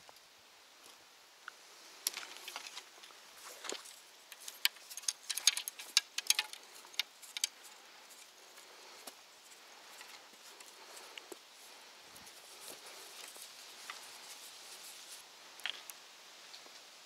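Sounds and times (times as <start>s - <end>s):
fishing gear clicking and rattling: 2.0s - 15.9s.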